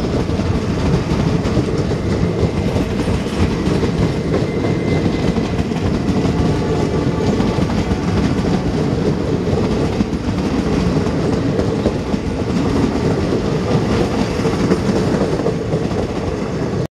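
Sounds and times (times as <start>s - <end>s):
train wheels rumbling on track: 0.0s - 16.9s.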